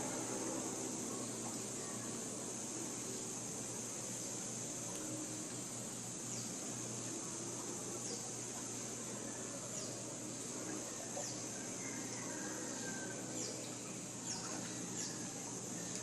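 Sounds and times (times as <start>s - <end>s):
insects hissing: 0.0s - 16.0s
low steady hum: 0.0s - 16.0s.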